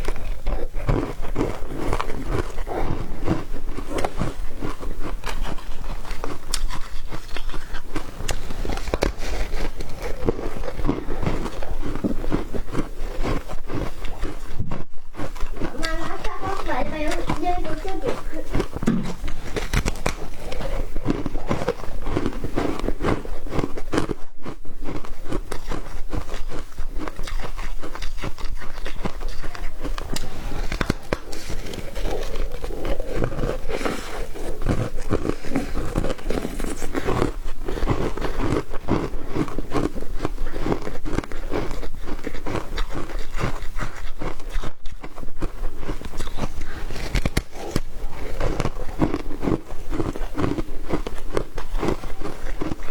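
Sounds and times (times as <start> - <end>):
ice crunching while chewed: 0.0 - 52.9.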